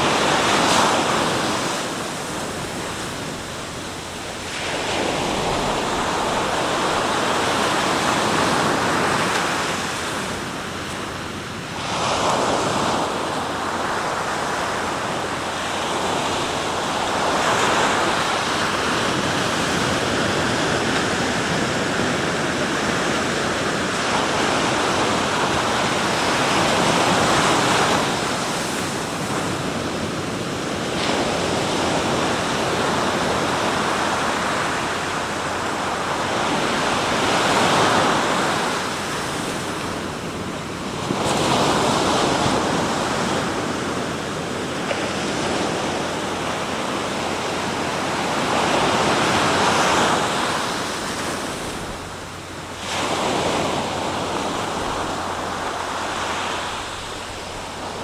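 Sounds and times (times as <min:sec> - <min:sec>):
waves breaking on shore: 0:00.0 - 0:58.0
wind on microphone: 0:00.0 - 0:58.0.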